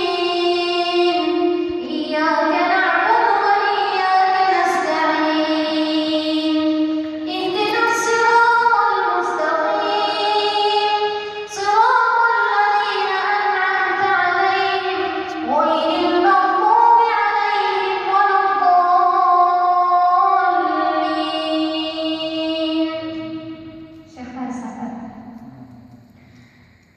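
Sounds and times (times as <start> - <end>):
person chanting melodic recitation: 0.0 - 24.5.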